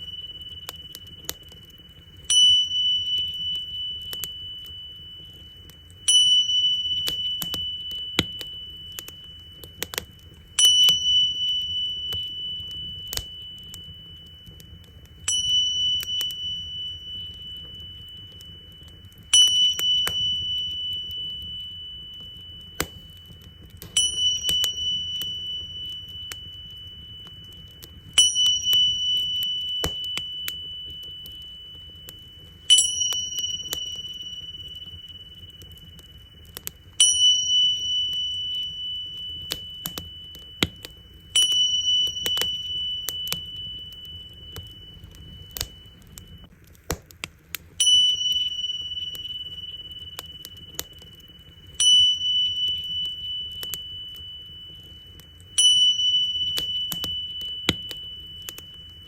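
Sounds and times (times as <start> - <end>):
tingsha cymbals ringing: 0.0 - 46.5, 47.8 - 59.0
wood fire crackling: 0.0 - 59.0.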